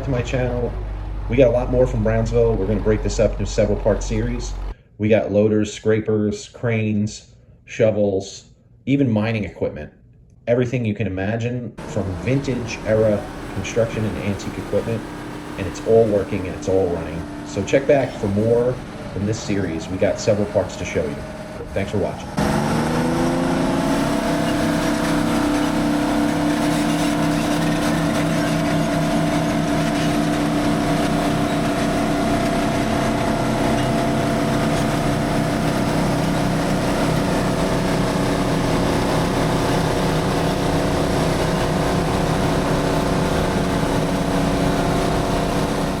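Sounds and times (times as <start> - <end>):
engine running at high speed: 0.0 - 4.8, 11.8 - 46.0.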